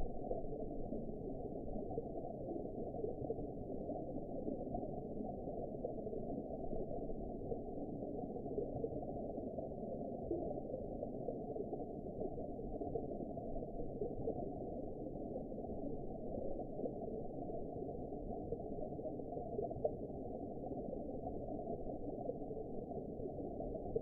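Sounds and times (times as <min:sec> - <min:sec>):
deep muffled underwater wash: 0:00.0 - 0:24.0.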